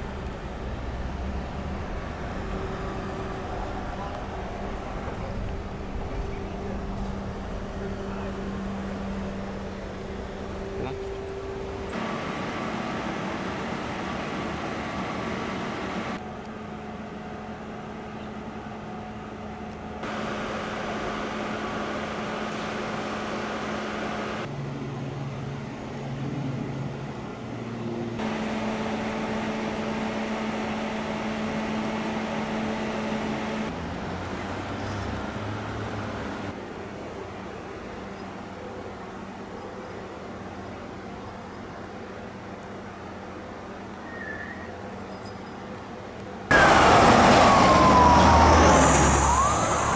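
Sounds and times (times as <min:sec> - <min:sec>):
vehicle engine and traffic hum: 0:00.0 - 0:49.9.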